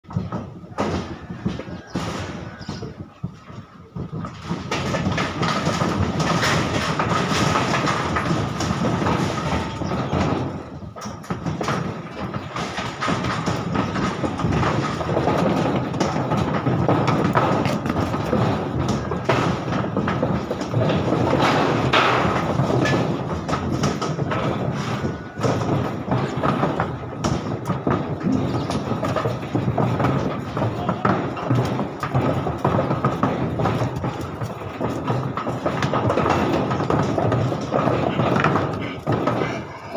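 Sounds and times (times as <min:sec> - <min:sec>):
hooves clattering on wooden ramp: 0:00.0 - 0:39.9.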